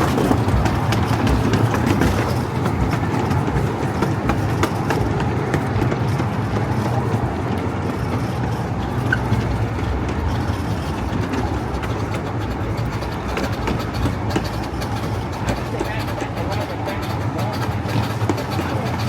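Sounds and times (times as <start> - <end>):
steam train cars rattling on rails: 0.0 - 19.0.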